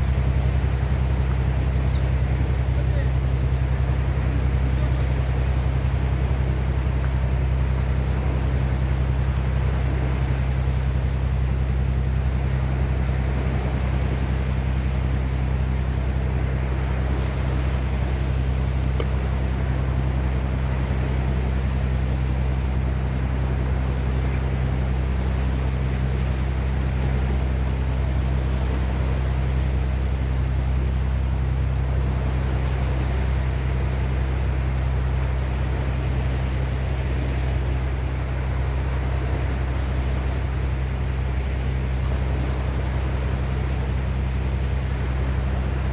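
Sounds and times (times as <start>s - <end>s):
low mechanical drone: 0.0s - 45.9s
sea waves: 0.0s - 45.9s
wind: 0.0s - 45.9s.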